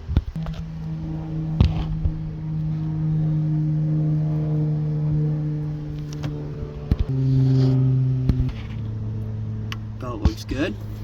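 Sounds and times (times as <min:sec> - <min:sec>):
low mechanical engine hum: 0:00.0 - 0:11.0.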